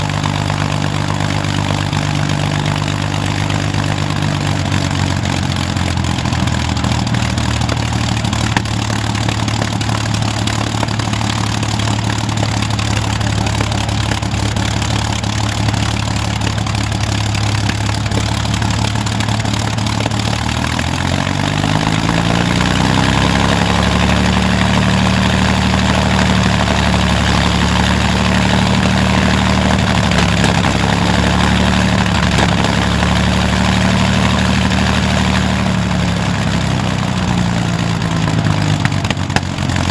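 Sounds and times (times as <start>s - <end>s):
aircraft engine revving: 0.0s - 39.9s.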